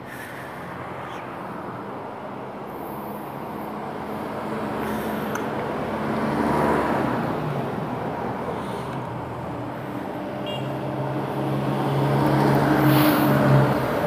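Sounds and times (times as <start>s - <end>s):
street traffic noise: 0.0s - 14.0s
vehicle engine hum: 0.0s - 14.0s.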